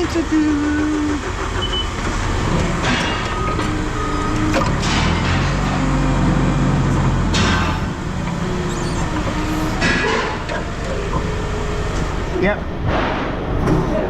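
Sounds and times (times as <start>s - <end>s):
engine running: 0.5s - 12.9s.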